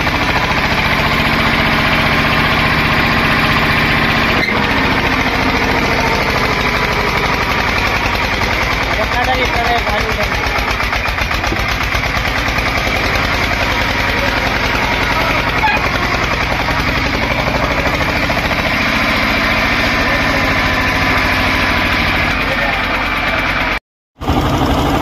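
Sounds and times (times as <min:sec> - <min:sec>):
tractor diesel engine chugging: 0:00.0 - 0:25.0.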